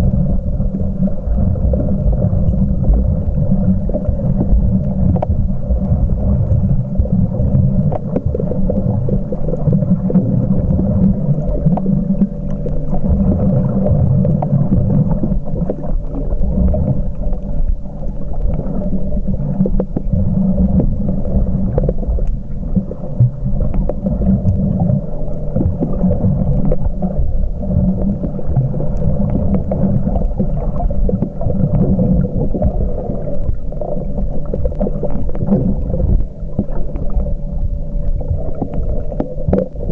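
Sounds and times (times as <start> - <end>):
steady low hum: 0.0 - 39.9
underwater rumble of moving water: 0.0 - 39.9.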